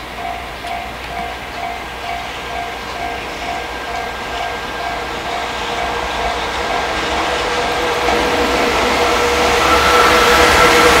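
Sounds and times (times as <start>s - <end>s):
freight train passing: 0.0s - 11.0s.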